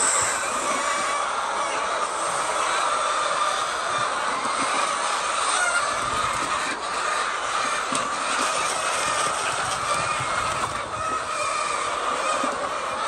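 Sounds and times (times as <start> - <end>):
hens clucking: 0.1 - 13.0.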